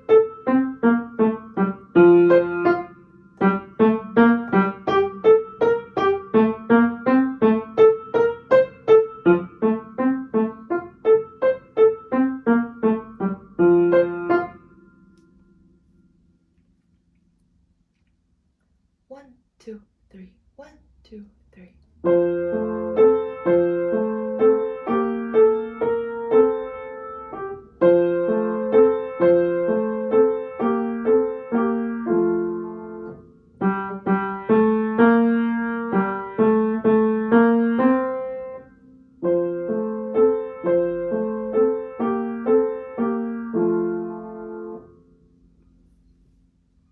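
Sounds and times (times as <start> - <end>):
piano piece: 0.0 - 16.3, 22.0 - 45.6.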